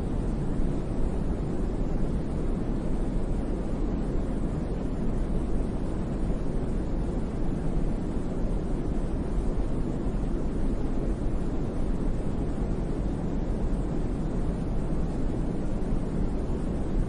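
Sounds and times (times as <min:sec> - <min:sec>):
low rumbling brown noise: 0:00.0 - 0:17.0.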